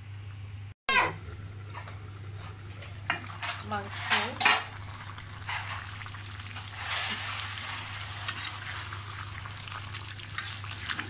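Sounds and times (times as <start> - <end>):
food sizzling in a pan: 1.7 - 11.0.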